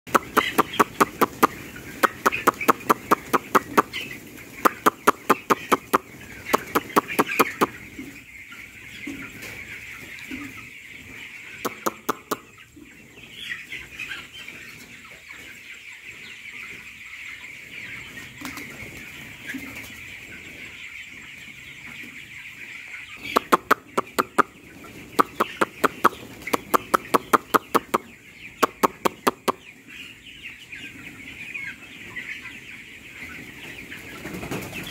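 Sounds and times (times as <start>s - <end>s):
chickens peeping and clucking: 0.1s - 34.9s.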